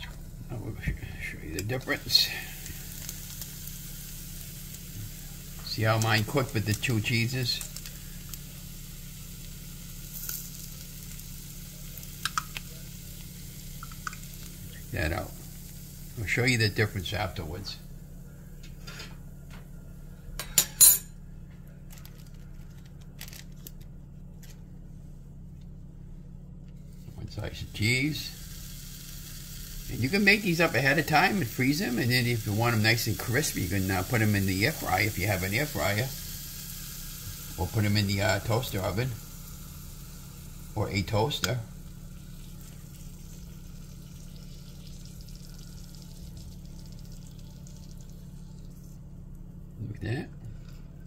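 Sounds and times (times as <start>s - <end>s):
egg sizzling and crackling: 0.0s - 18.2s, 26.8s - 49.6s
steady low hum: 0.0s - 51.0s.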